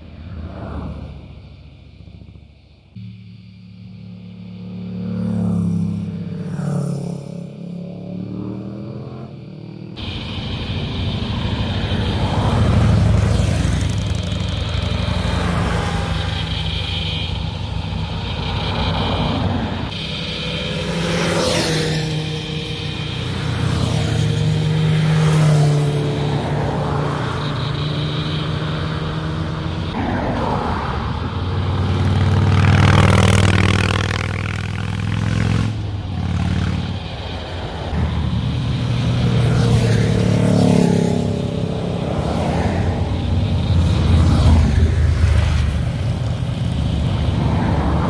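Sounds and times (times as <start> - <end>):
motorcycles passing: 0.0 - 48.0.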